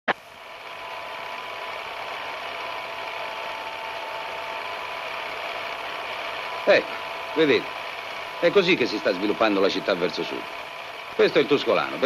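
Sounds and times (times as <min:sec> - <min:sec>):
aircraft engine drone: 0:00.1 - 0:12.0
faint steady hum: 0:00.1 - 0:12.0.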